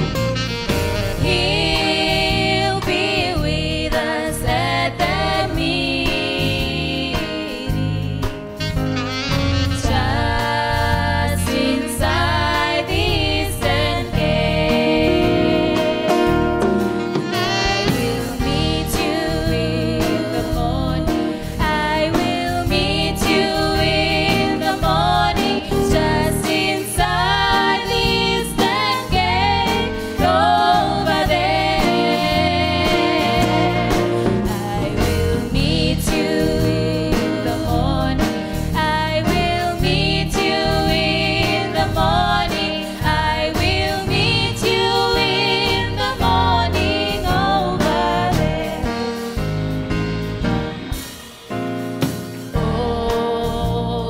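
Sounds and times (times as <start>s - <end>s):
live band keyboard and bass: 0.0s - 54.0s
women singing gospel: 1.2s - 8.6s, 9.8s - 49.4s, 52.4s - 54.0s.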